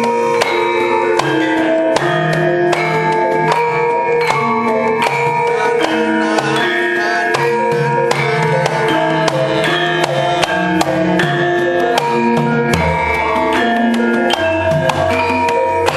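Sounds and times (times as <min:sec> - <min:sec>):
hand drum strokes: 0:00.0 - 0:15.9
ringing metallophone notes: 0:00.0 - 0:15.9.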